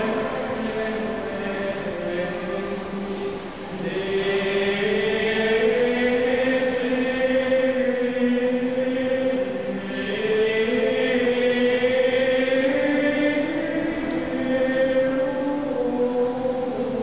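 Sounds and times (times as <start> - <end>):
voices singing slow chant: 0.0 - 17.0.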